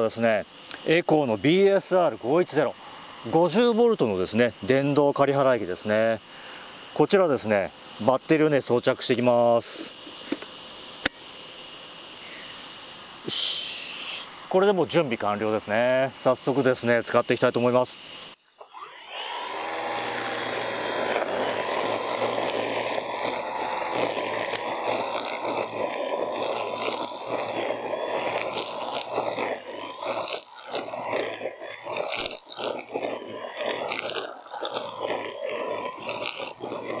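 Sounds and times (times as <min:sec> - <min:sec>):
brush cutter motor whining: 0:00.0 - 0:11.2, 0:13.5 - 0:37.0.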